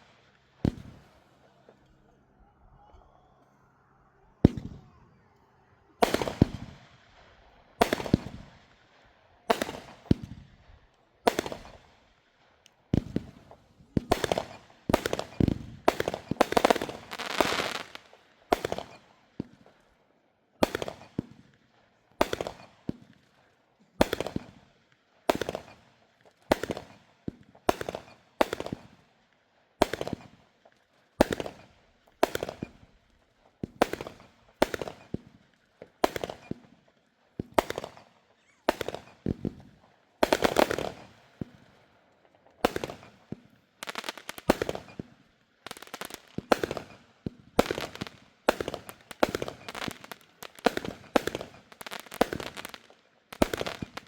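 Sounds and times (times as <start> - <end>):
fireworks bangs and crackles: 0.0 - 3.0, 4.4 - 19.9, 20.6 - 54.0.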